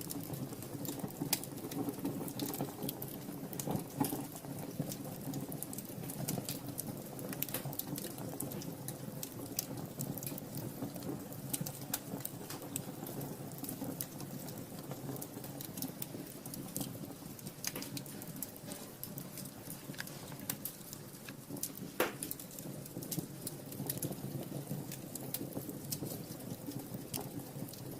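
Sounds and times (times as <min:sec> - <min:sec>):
fire crackling and popping: 0:00.0 - 0:27.9
low rush of flame: 0:00.0 - 0:27.9.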